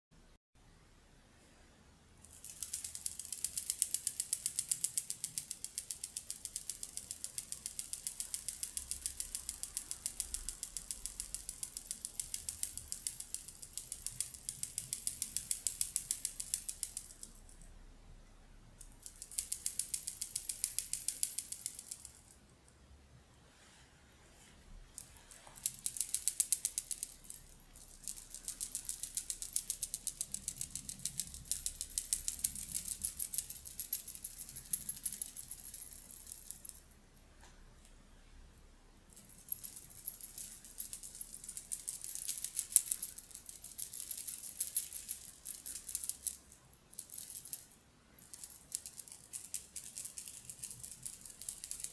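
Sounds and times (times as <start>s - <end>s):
fast dry rattling clicks: 2.2s - 17.5s, 18.8s - 22.3s, 25.0s - 36.8s, 39.2s - 51.9s.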